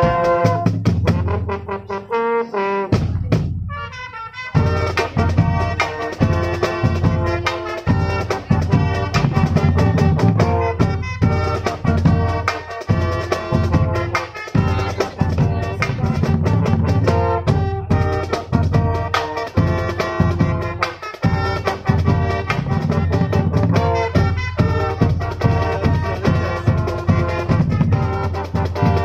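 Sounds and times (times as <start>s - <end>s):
bass drums beating: 0.0s - 1.9s, 2.9s - 4.0s, 4.6s - 29.0s
brass playing chords and melody: 0.0s - 29.0s
snare drum beating time: 0.0s - 29.0s.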